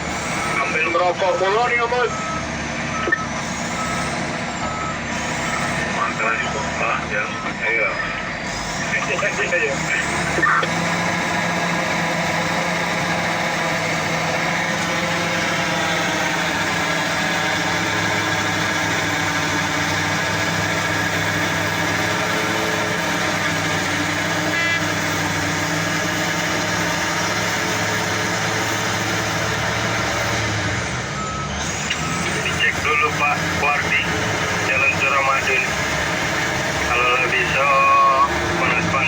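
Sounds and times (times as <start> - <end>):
large diesel engine running: 0.0 - 39.0.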